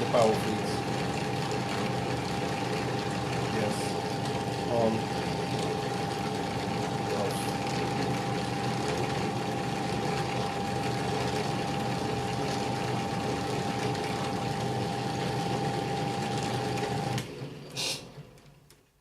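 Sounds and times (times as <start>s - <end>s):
lathe motor whirring with whine: 0.0s - 17.4s.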